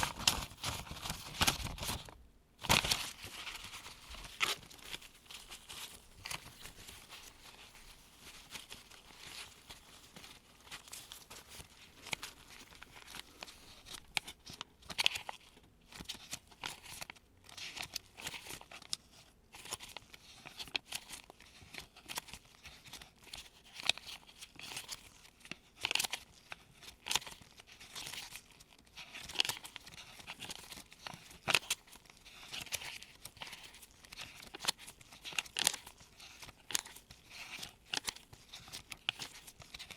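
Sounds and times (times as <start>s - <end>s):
paper bills rustling: 0.0s - 39.9s.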